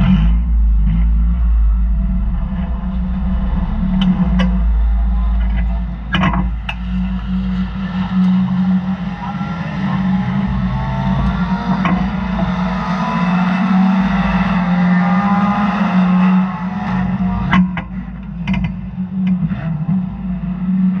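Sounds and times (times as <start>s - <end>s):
race car engine idling: 0.0s - 21.0s.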